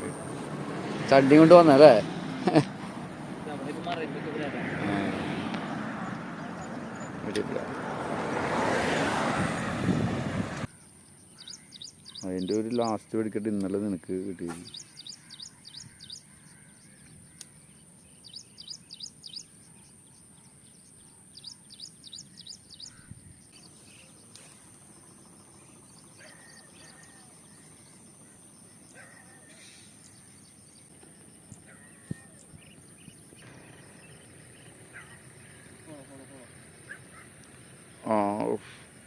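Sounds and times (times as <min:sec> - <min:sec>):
bird chirping: 0:03.5 - 0:08.2, 0:10.7 - 0:39.0.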